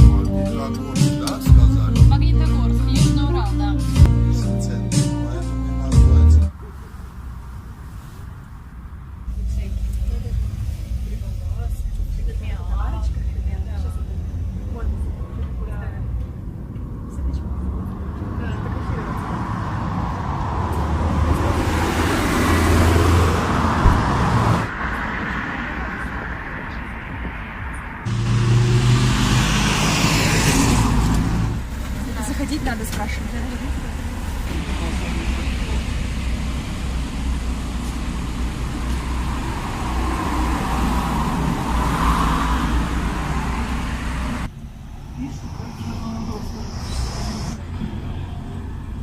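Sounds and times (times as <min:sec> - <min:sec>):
low traffic rumble: 0:00.0 - 0:49.0
vehicle passing close by: 0:06.6 - 0:49.0.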